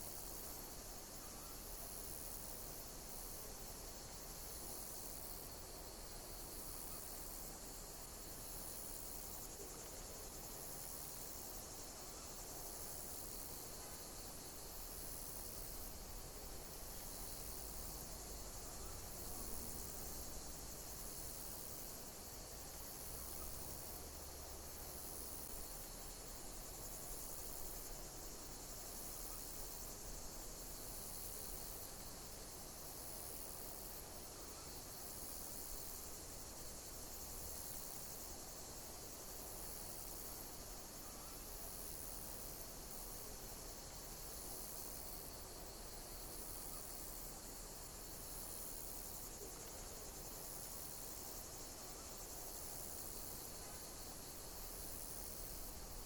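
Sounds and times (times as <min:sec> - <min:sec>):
insects chirping: 0:00.0 - 0:56.0
steady hiss: 0:00.0 - 0:56.0.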